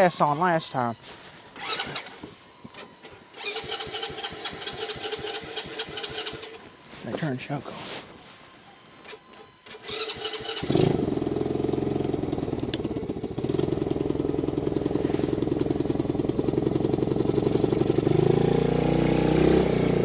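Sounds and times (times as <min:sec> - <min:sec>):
atv engine starting and idling: 0:01.6 - 0:06.7, 0:09.0 - 0:20.0.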